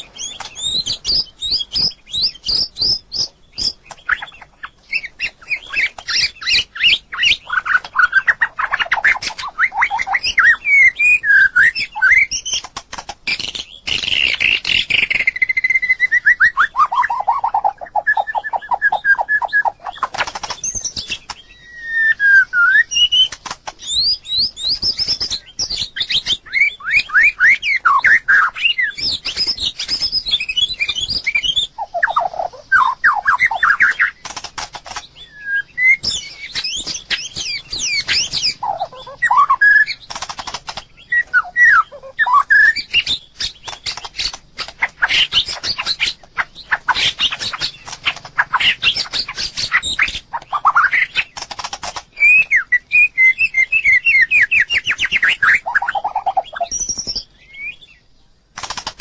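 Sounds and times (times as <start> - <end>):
bird singing whistles and trills: 0.0 - 58.3
sharp bird clicks: 0.0 - 59.0.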